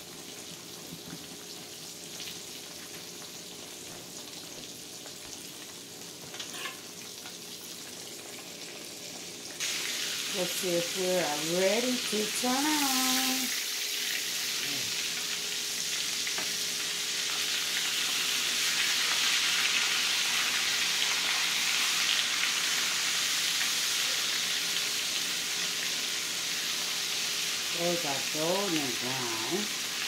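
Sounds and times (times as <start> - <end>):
pork chops sizzling in oil: 0.0 - 30.0.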